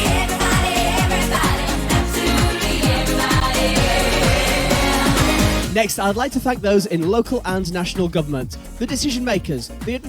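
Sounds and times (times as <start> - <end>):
music with kick-drum beat: 0.0 - 10.0.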